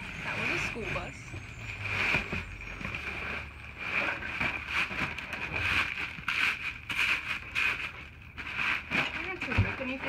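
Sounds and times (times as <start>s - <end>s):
backpack rustling and scraping: 0.0s - 10.0s.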